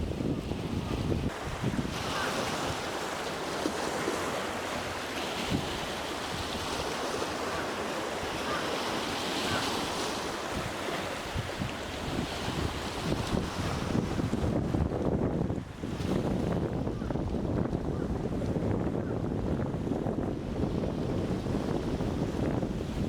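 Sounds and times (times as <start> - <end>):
wind rumbling on microphone: 0.0 - 3.1, 3.7 - 7.6, 9.5 - 23.0
sea waves splashing: 0.0 - 18.7.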